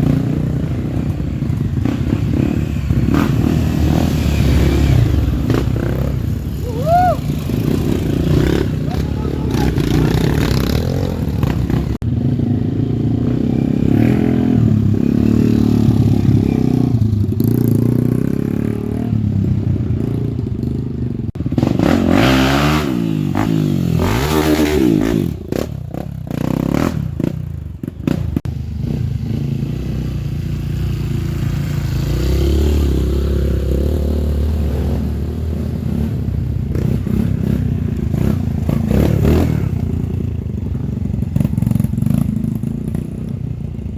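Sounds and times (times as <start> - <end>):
motorcycle engines revving: 0.0 - 43.9.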